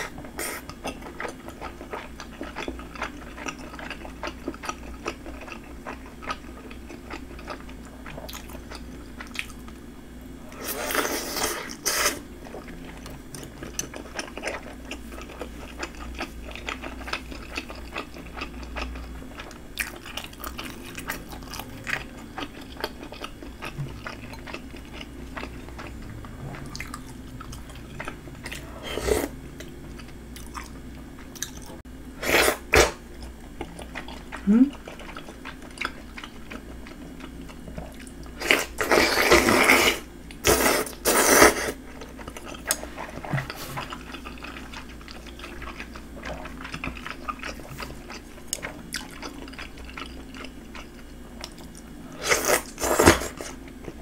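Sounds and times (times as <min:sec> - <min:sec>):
person chewing: 0:00.0 - 0:09.8, 0:10.5 - 0:54.0.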